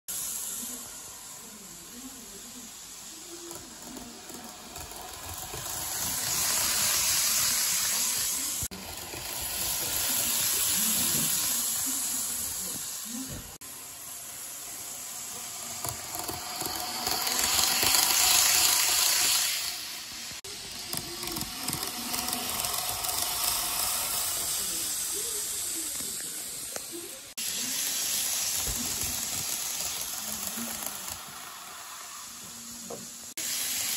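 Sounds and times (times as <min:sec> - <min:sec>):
wheels hissing on rails: 0:00.1 - 0:33.9
model train motor whirring: 0:01.9 - 0:33.9.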